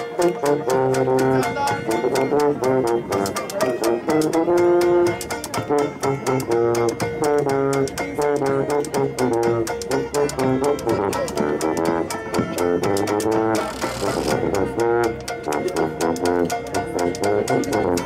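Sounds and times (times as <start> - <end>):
instrumental band music: 0.0 - 18.0.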